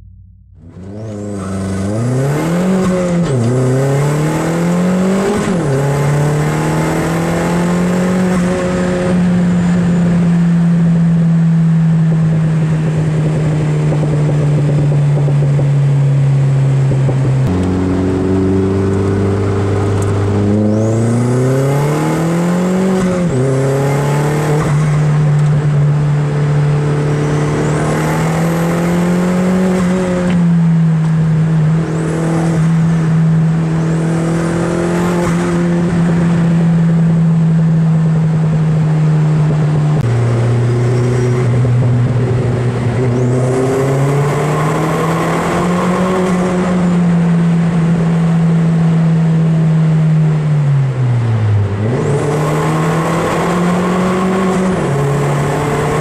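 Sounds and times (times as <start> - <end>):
turbocharged car engine accelerating: 0.6 - 56.0.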